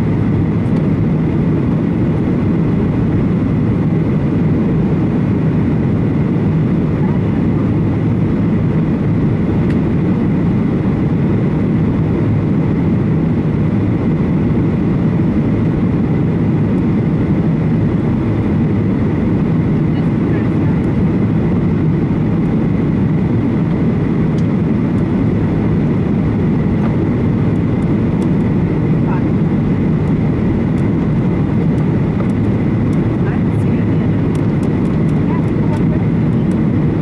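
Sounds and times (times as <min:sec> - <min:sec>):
jet engines and airflow rush: 0:00.0 - 0:37.0.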